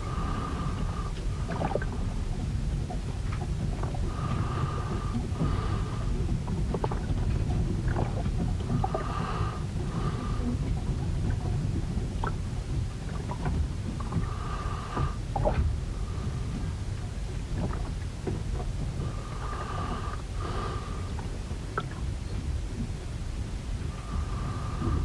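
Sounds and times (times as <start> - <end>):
wind and waves rumbling: 0.0 - 25.0.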